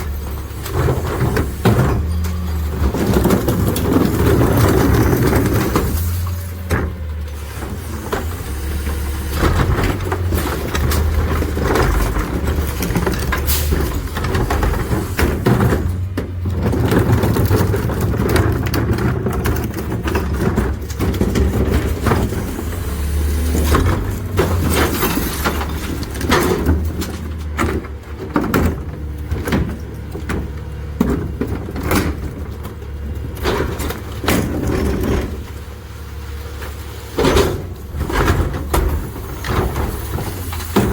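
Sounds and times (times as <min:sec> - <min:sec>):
clanks and knocks of material: 0:00.0 - 0:07.3, 0:09.4 - 0:40.9
hydraulic packer droning: 0:00.0 - 0:40.9.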